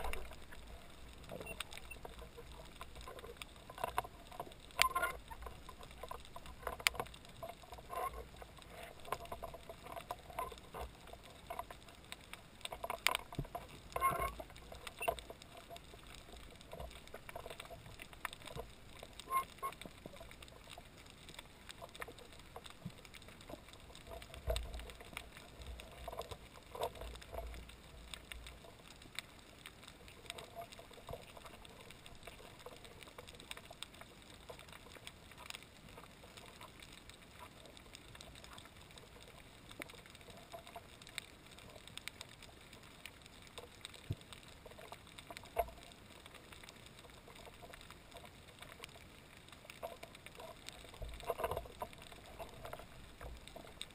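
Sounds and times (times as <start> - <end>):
low rumbling water movement: 0.0 - 53.9
sharp underwater clicks and crackles: 0.0 - 53.9.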